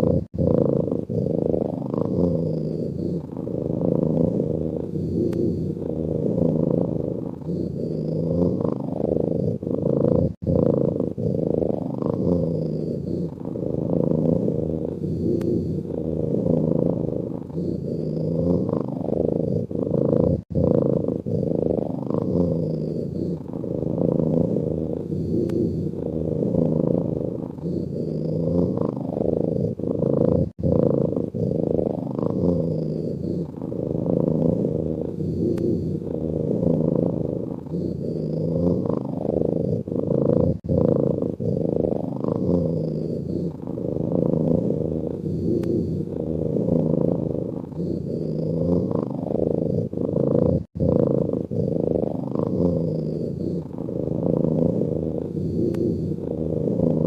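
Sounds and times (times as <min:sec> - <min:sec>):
cat snoring: 0:00.0 - 0:57.0.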